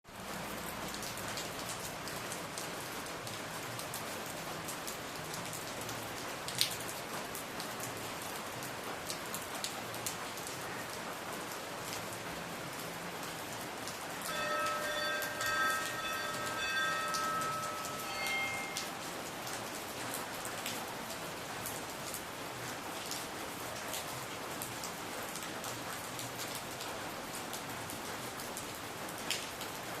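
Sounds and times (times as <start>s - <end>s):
raindrops ticking close by: 0.1s - 30.0s
steady rainfall: 0.1s - 30.0s.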